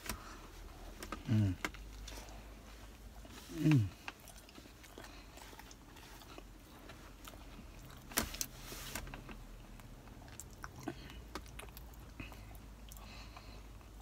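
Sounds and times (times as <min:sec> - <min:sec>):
low steady hum: 0:00.0 - 0:14.0
person chewing crunchy food: 0:00.6 - 0:08.2, 0:09.1 - 0:14.0.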